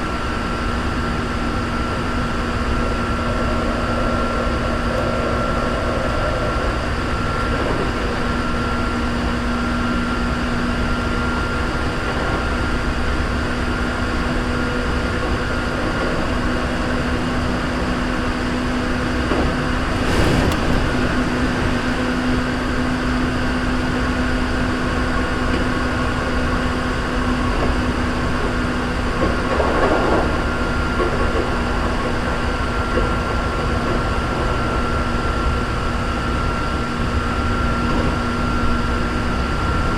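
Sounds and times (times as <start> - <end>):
loud rumble bursts: 0.0 - 34.7
constant electric whine: 0.0 - 39.9
train wheels rumbling on rail: 0.0 - 39.9.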